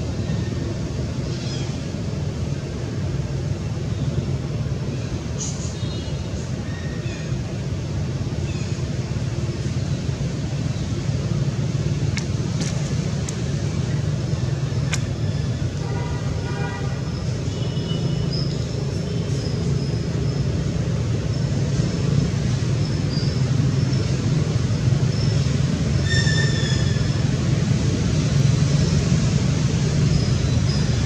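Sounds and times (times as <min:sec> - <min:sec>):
low outdoor drone: 0:00.0 - 0:31.0.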